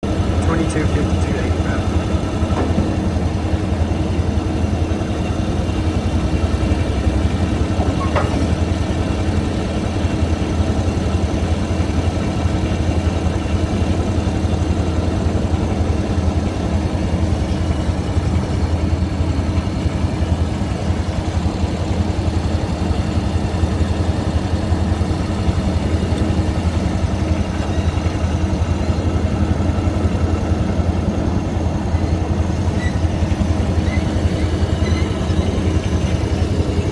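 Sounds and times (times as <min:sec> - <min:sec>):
loader engine running: 0:00.0 - 0:36.9.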